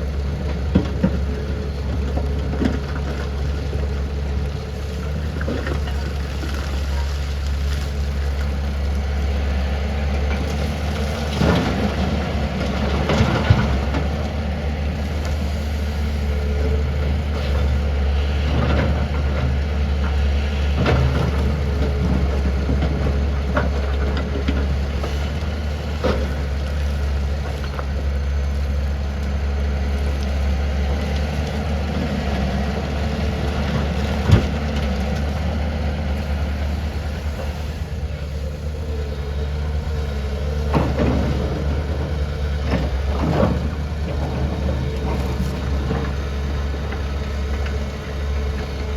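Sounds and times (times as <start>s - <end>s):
excavator diesel engine humming: 0.0s - 48.9s.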